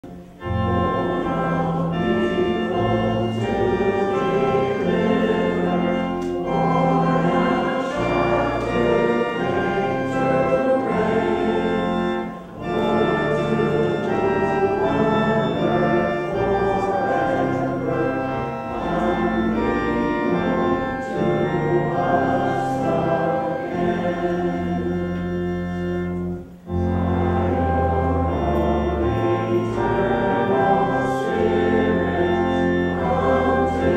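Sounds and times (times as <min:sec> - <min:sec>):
organ playing sustained chords: 0:00.0 - 0:33.9.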